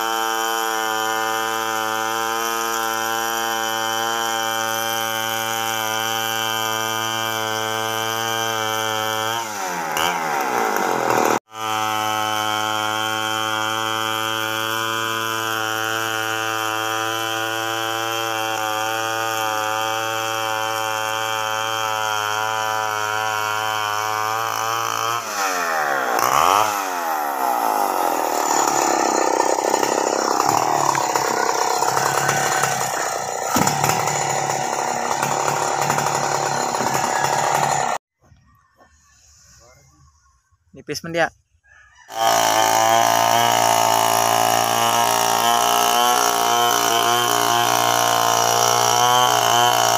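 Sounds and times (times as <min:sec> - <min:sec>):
chainsaw cutting log: 0:00.0 - 0:38.0, 0:42.1 - 0:49.9.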